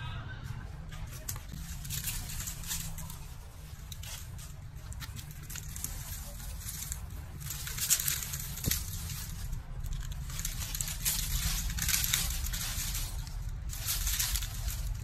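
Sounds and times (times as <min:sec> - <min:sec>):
dry palm fronds rustling: 0:00.7 - 0:15.0.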